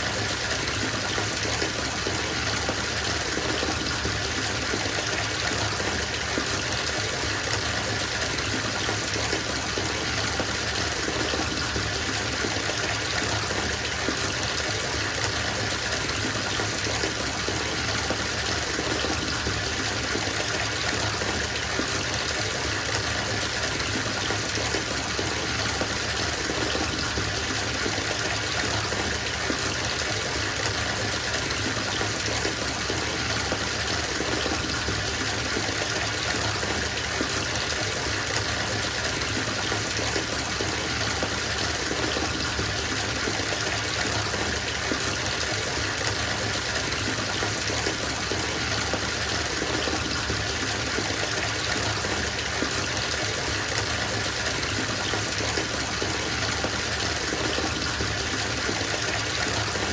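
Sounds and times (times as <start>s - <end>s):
water gushing into bathtub: 0.0s - 59.9s.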